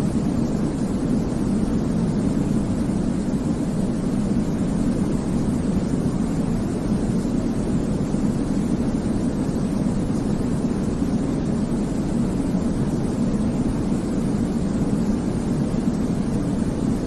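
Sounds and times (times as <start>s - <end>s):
deep rumbling white noise: 0.0s - 17.0s.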